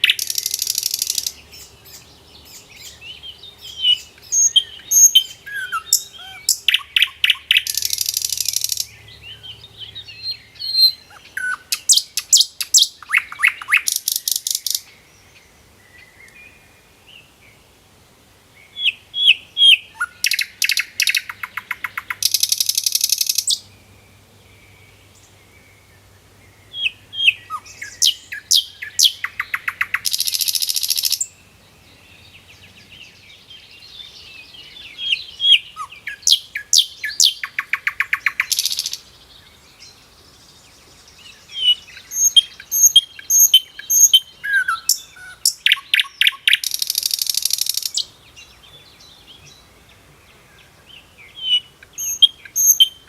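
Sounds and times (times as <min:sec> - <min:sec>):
faint bird chirps: 0:00.0 - 0:17.7, 0:18.6 - 0:53.0
songbird singing trills: 0:00.0 - 0:17.8, 0:18.5 - 0:53.0.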